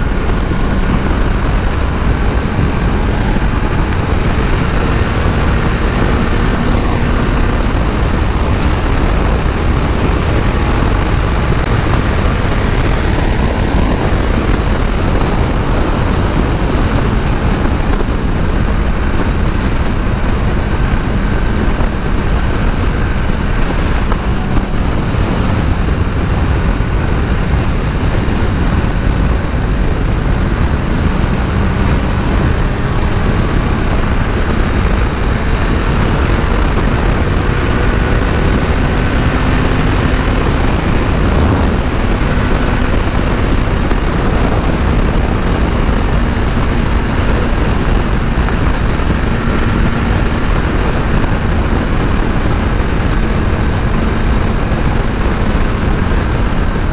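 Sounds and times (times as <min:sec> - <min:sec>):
motorcycle engine drone: 0:00.0 - 0:56.9
wind noise: 0:00.0 - 0:56.9.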